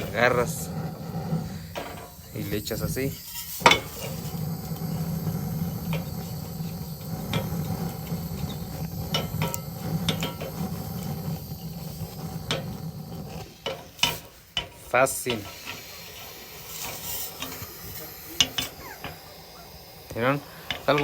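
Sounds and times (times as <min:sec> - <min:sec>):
fire crackling: 0:00.0 - 0:21.0
gas torch flame blowing: 0:00.0 - 0:21.0.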